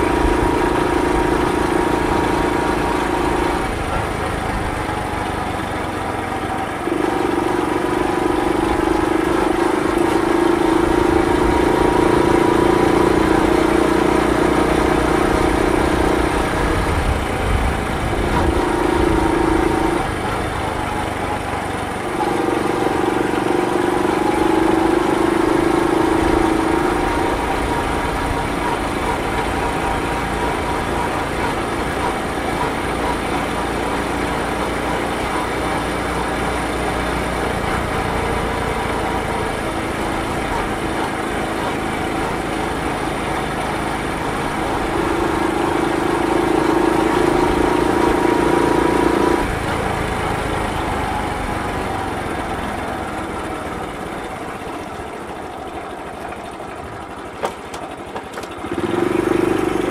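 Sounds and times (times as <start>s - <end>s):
motorbike engine running: 0.0s - 59.9s.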